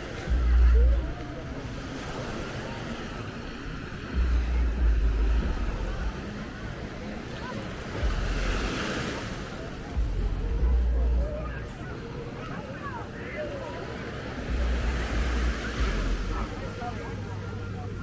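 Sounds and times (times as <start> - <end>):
surf washing onto beach: 0.0 - 10.6, 11.2 - 18.0
wave breaking: 0.0 - 18.0.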